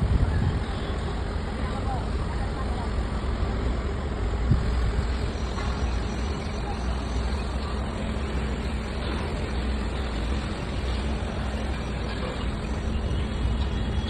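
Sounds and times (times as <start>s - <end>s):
heavy engine rumbling: 0.0s - 14.0s.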